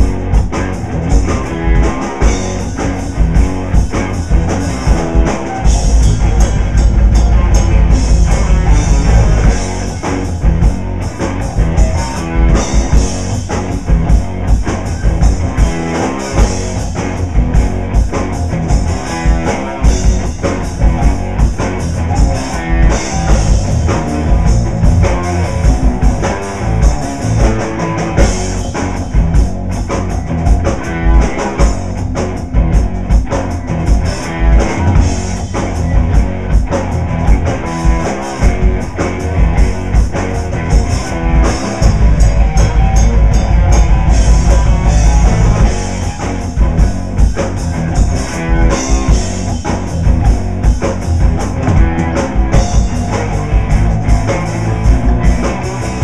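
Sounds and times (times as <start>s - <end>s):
busy drumming: 0.0s - 56.0s
live instrumental rock: 0.0s - 56.0s.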